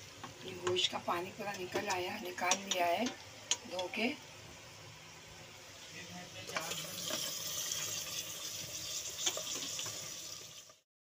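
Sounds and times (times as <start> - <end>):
loud sizzling hiss: 0.0 - 10.8.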